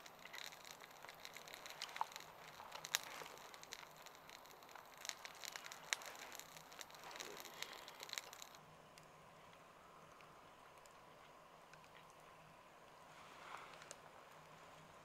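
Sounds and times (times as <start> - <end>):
campfire crackling: 0.0 - 15.0
faint hiss: 0.0 - 15.0.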